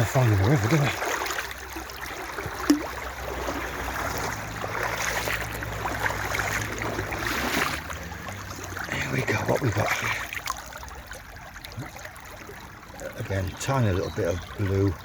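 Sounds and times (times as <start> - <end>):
water sloshing around wading boots: 0.0 - 15.0.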